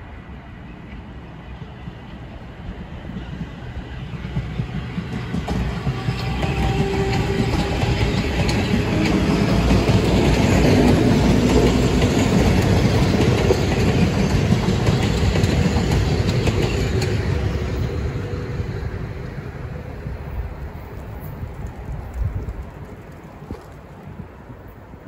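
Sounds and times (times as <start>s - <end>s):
train wheels rumbling and clicking: 0.8s - 25.0s.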